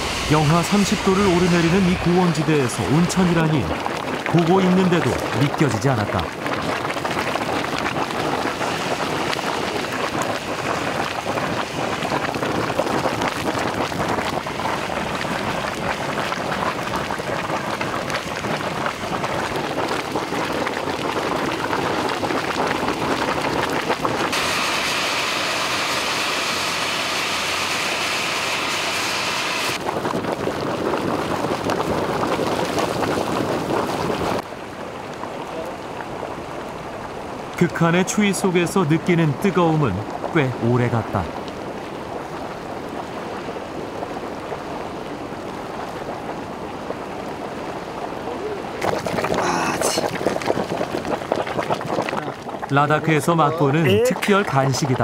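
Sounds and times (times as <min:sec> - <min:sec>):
hot spring water splashing: 0:00.0 - 0:55.0.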